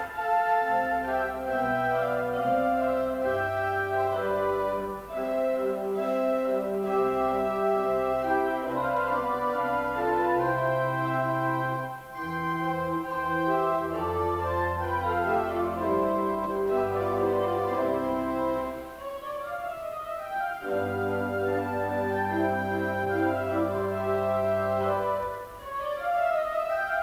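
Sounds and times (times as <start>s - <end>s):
slow organ music: 0.0s - 27.0s.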